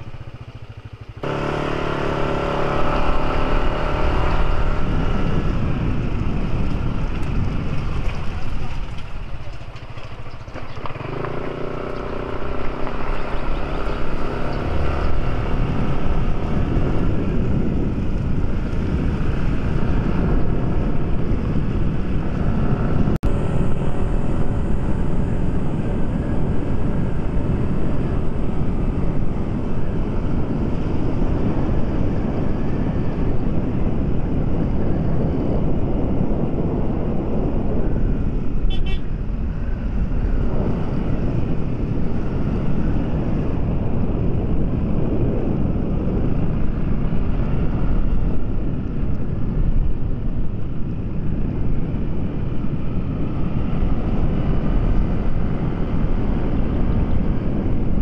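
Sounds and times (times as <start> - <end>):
motorcycle engine: 0.0 - 58.0
wind noise on microphone: 0.0 - 58.0.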